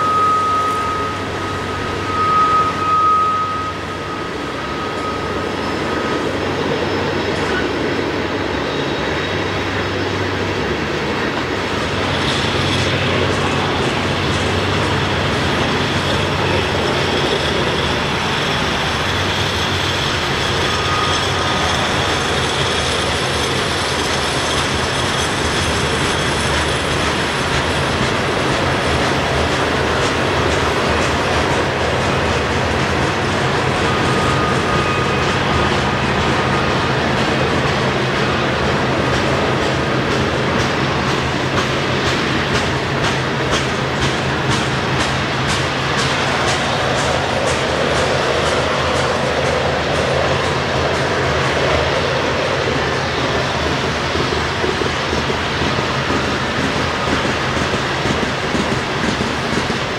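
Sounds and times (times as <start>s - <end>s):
high wheel squeal: 0.0s - 59.9s
train rolling on rails: 0.0s - 59.9s.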